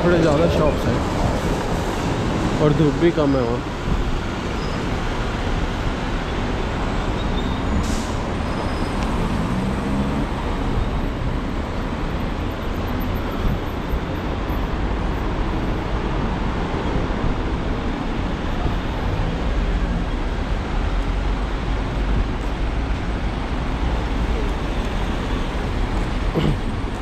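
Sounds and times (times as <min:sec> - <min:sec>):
city street traffic rumble: 0:00.0 - 0:27.0.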